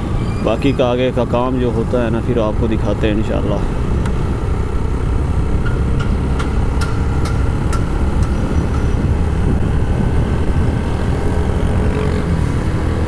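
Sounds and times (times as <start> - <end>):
motorcycle engine and road rumble: 0.0 - 13.0.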